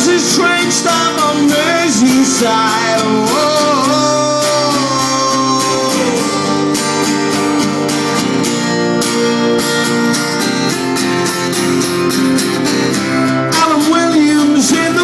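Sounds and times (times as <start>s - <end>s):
live band playing folk-rock: 0.0s - 15.0s
strummed guitar: 0.0s - 15.0s.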